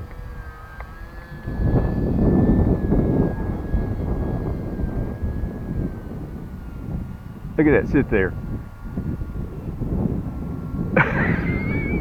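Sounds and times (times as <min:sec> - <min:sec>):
electric model plane motor whine: 0:00.0 - 0:12.0
wind buffeting microphone: 0:00.0 - 0:12.0.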